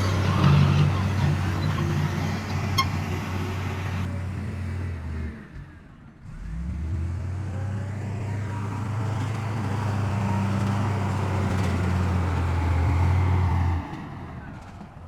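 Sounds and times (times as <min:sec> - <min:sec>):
diesel machinery engine drone: 0:00.0 - 0:14.9.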